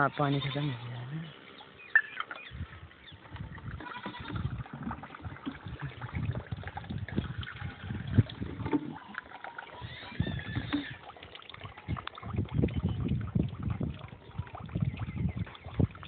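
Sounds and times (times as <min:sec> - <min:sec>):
water pump sputtering and gurgling: 0:00.0 - 0:16.0.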